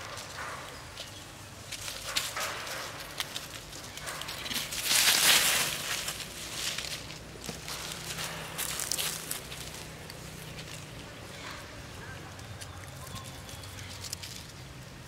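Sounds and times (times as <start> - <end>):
rustling in dry leaves: 0.0 - 15.0.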